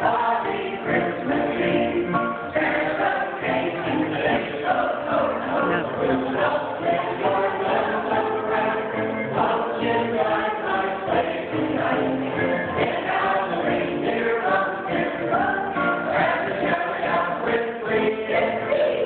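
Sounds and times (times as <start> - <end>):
acoustic guitar: 0.0 - 18.9
choir singing: 0.0 - 19.0.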